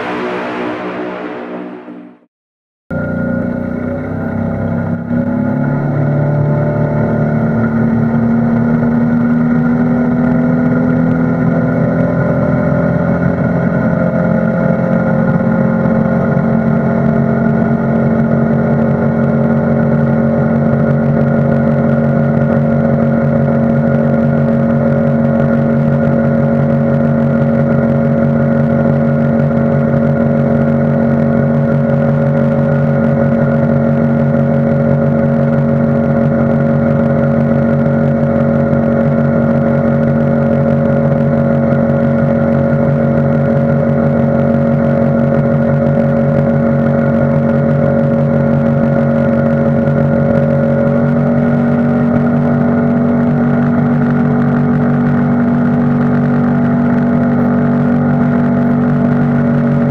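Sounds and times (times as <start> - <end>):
outboard motor running: 3.0 - 59.9.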